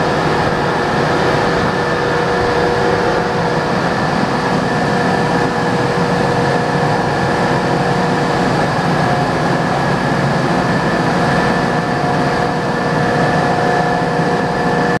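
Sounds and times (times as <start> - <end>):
lathe machine humming: 0.0 - 15.0.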